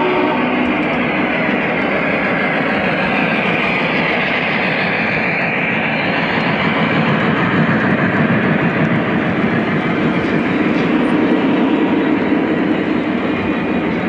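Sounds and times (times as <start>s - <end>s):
model train rumbling past: 0.0s - 14.0s.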